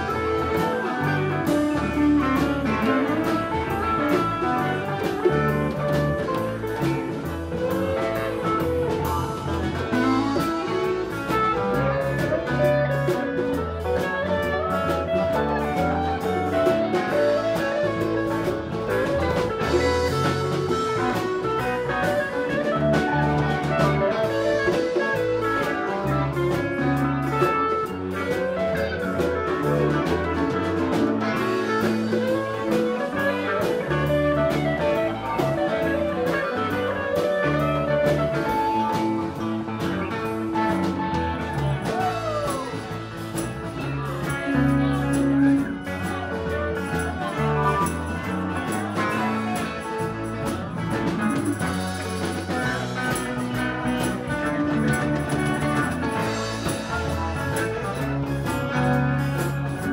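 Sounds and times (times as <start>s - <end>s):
drum kit: 0.0s - 59.9s
guitar: 0.0s - 59.9s
walking bass line: 0.0s - 59.9s.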